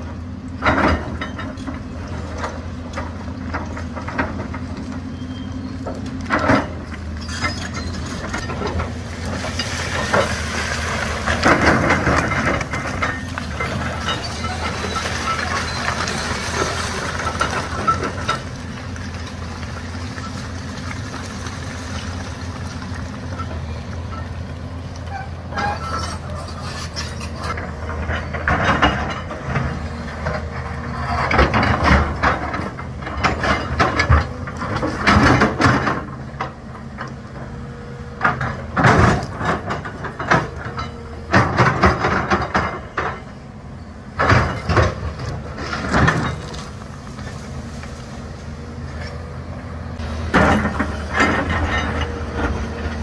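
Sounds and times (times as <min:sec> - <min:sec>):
excavator diesel engine: 0:00.0 - 0:53.0.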